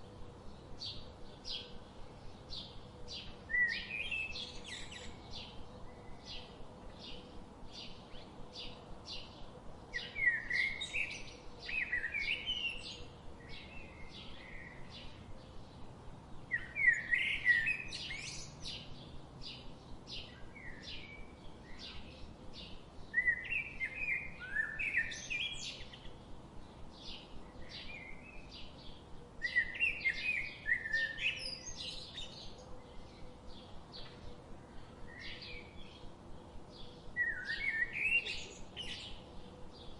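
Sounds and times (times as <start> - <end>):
bird warbling song: 0.4 - 15.8, 16.5 - 39.9
bird chirping: 0.4 - 15.9, 16.5 - 39.9.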